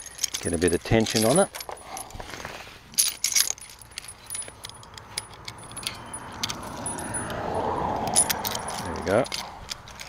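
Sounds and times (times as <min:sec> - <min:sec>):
steel chain clinking and rattling: 0:00.0 - 0:10.0.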